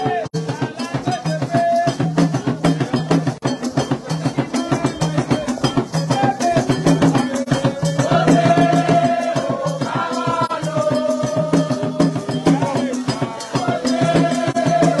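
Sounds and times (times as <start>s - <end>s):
crowd singing: 0.0s - 15.0s.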